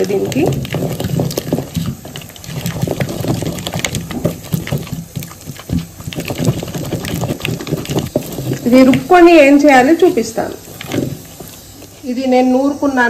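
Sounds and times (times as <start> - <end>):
wood knocking on clay pot: 0.0 - 12.0
wet squelching of mashing: 0.0 - 12.1.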